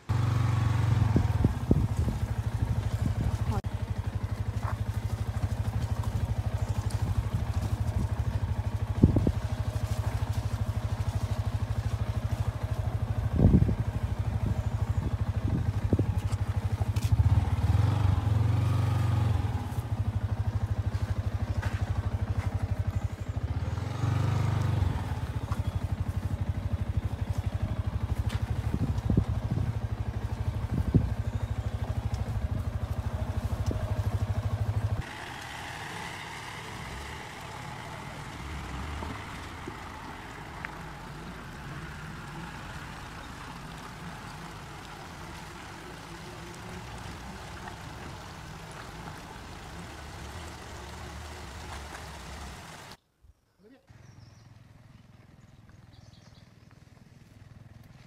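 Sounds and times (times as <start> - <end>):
motorcycle engine running: 0.0 - 53.0, 53.9 - 58.0
outdoor background: 0.0 - 58.0.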